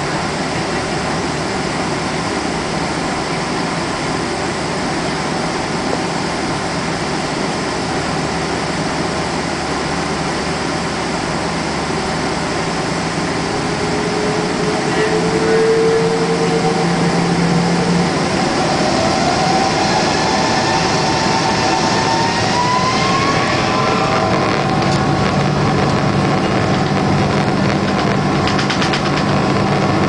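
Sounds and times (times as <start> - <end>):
aircraft cabin air rush: 0.0 - 30.0
engine hum: 0.0 - 30.0
rising whine: 0.0 - 30.0.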